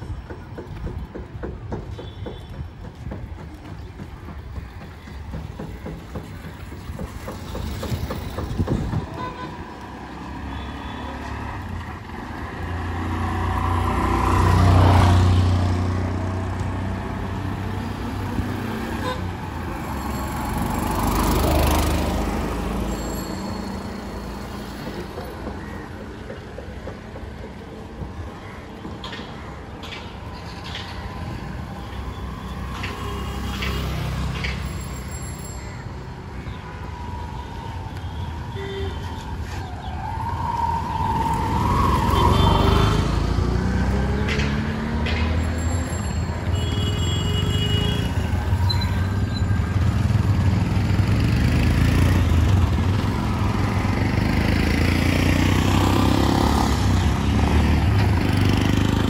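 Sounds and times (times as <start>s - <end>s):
street noise: 0.0s - 59.0s
motor vehicles passing: 2.8s - 38.0s, 39.0s - 59.0s.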